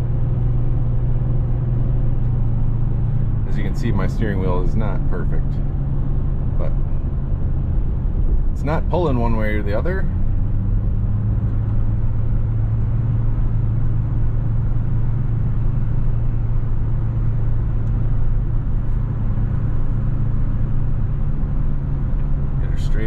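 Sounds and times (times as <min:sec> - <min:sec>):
engine and tyre drone in car: 0:00.0 - 0:23.0.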